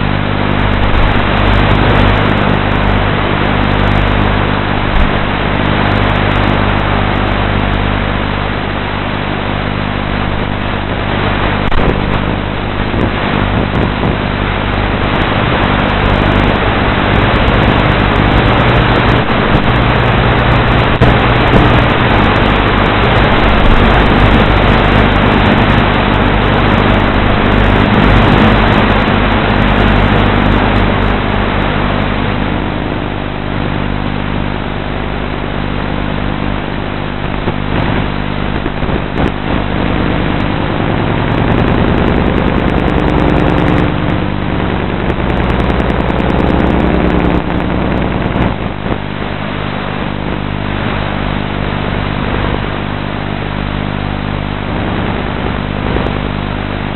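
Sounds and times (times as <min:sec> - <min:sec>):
electric motor and propellers humming: 0:00.0 - 0:35.2, 0:35.8 - 0:50.8
wind rush on microphone: 0:00.0 - 0:56.9.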